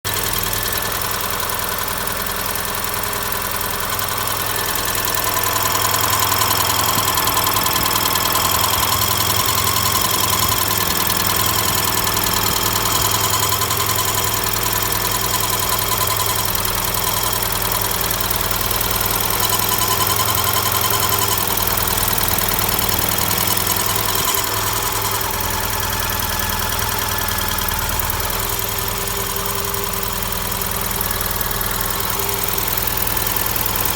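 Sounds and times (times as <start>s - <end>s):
car engine running: 0.0s - 33.9s
fine rhythmic engine ticking: 0.0s - 33.9s.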